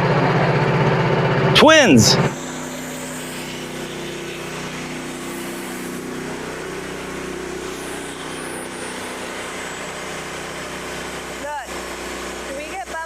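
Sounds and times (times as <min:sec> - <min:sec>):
sawmill engine running: 0:01.6 - 0:13.0.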